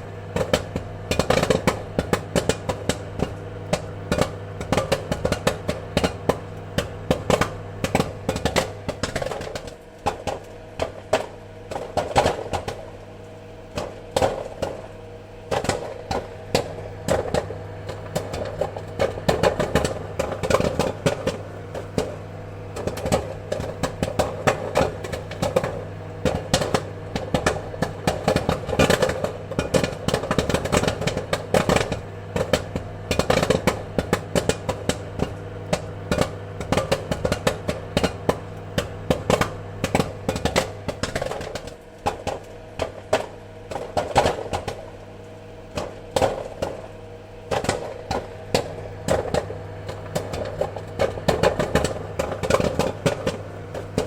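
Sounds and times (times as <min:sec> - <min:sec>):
popcorn popping: 0:00.0 - 0:54.0.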